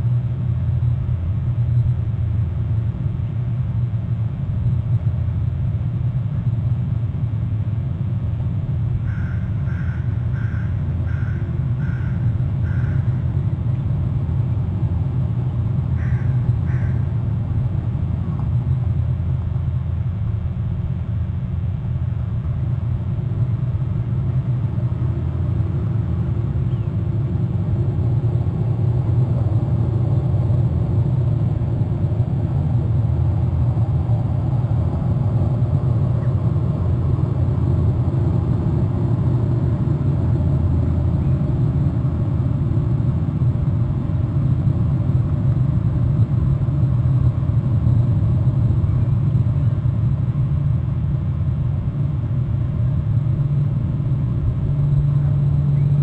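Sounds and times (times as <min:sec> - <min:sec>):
low background rumble: 0:00.0 - 0:56.0.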